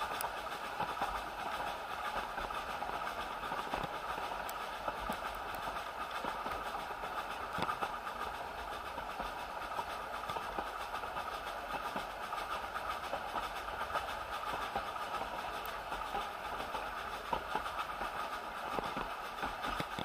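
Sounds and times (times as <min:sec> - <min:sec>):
train wheels rattling on rails: 0:00.0 - 0:20.0.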